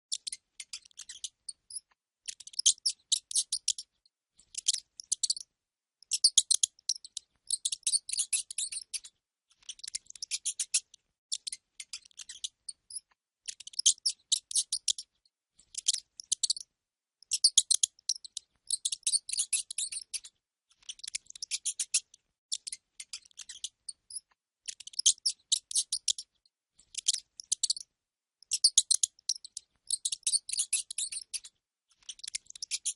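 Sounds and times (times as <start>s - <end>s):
small rodent squeaking: 0.1s - 32.9s.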